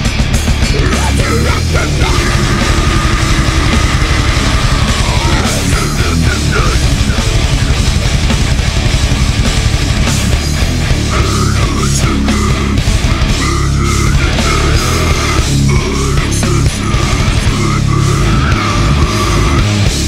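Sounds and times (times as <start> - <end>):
distorted guitars: 0.0 - 20.0
fast dense drumming: 0.0 - 20.0
heavy metal band: 0.0 - 20.0.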